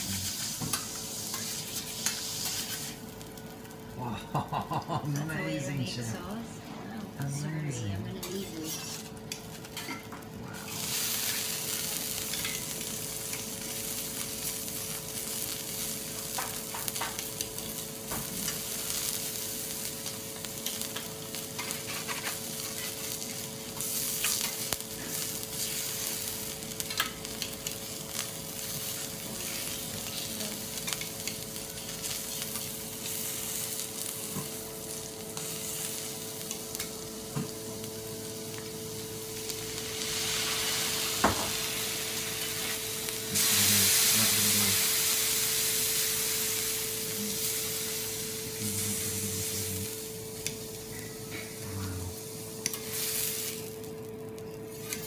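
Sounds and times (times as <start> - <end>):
seafood sizzling on griddle: 0.0 - 6.3, 7.2 - 55.0.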